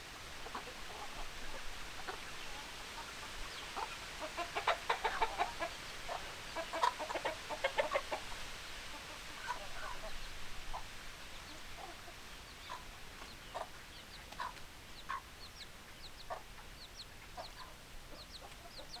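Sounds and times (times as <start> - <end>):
hens clucking: 0.4 - 10.9, 11.5 - 19.0.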